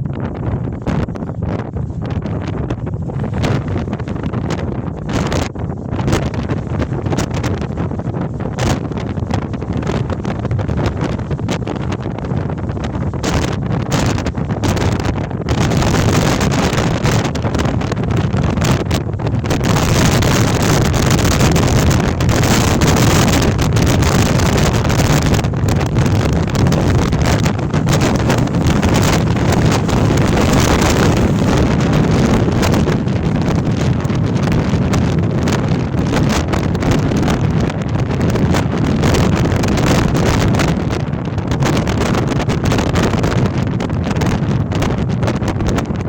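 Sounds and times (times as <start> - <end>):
strong wind buffeting microphone: 0.0 - 46.0.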